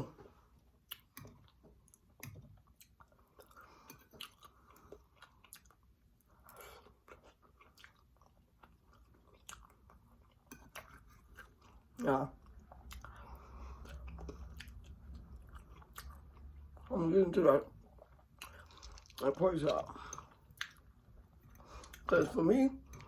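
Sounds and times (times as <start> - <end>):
person chewing: 0.1 - 16.9, 17.6 - 23.0.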